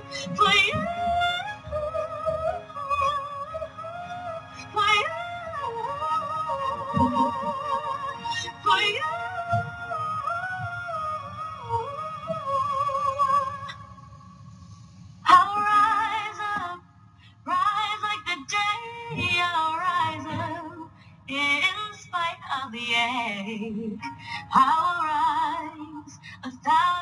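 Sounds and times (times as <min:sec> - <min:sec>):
soft musical accompaniment: 0:00.0 - 0:27.0
woman singing pop ballad: 0:00.1 - 0:13.8, 0:15.3 - 0:16.8, 0:17.5 - 0:27.0.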